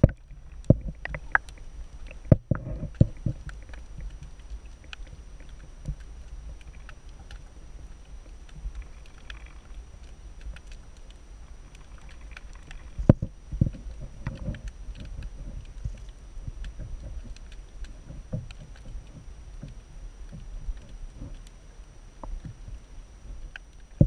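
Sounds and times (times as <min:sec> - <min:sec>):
faint clicks: 0:00.0 - 0:24.0
muffled underwater rumble: 0:00.0 - 0:24.0.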